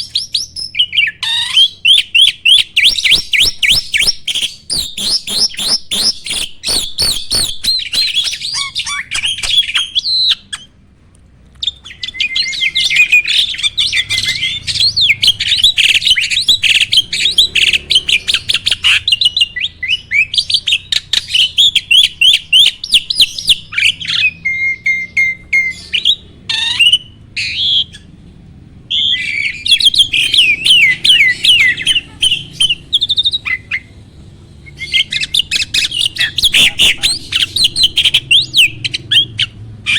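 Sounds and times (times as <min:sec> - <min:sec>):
starling singing: 0:00.0 - 0:10.8, 0:11.6 - 0:39.9.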